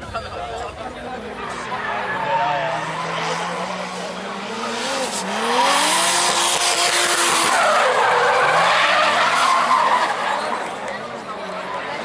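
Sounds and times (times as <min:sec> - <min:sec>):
tyres squealing on asphalt: 0:00.0 - 0:12.0
car engine revving: 0:01.2 - 0:12.0.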